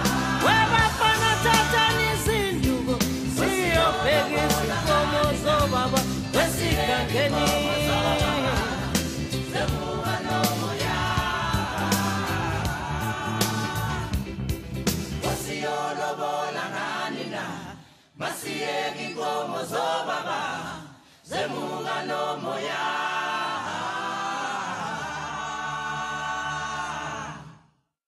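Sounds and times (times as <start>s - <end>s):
choir singing a cappella: 0.0s - 27.9s.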